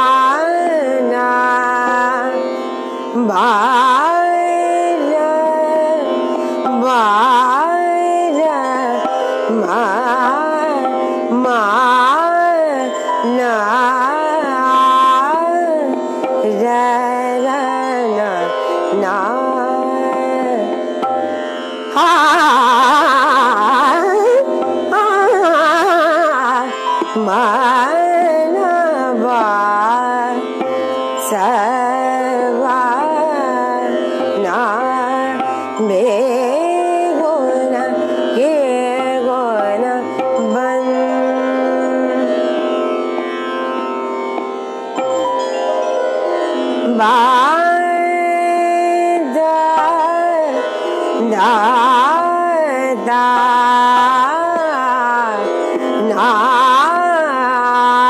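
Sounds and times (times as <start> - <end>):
instrumental accompaniment: 0.0 - 58.0
woman singing ornamented melody: 0.0 - 58.0.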